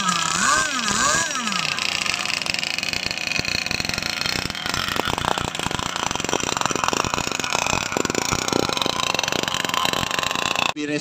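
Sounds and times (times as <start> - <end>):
small engines idling: 0.0 - 10.8.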